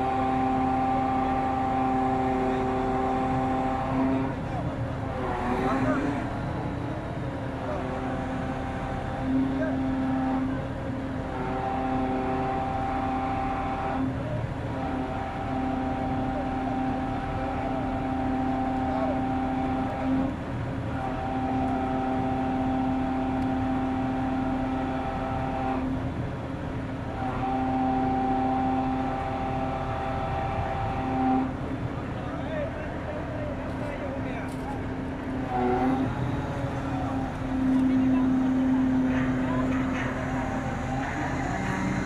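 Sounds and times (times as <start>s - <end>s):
low engine rumble: 0.0s - 42.0s
pitched machine hum: 0.0s - 42.0s.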